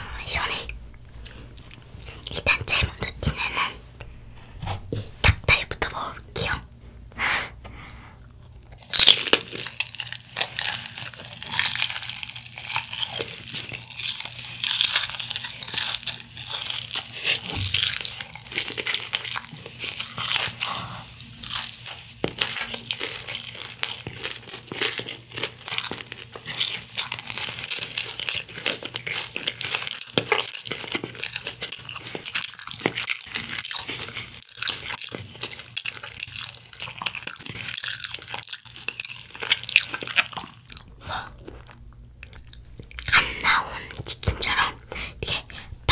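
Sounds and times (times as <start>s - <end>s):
crunchy chewing of fried chicken: 8.2s - 45.6s.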